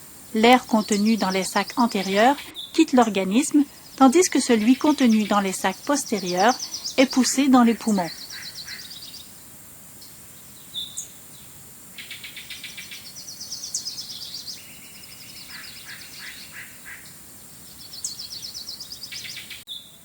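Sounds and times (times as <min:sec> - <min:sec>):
faint steady hiss: 0:00.0 - 0:20.0
small birds trilling: 0:00.0 - 0:20.0.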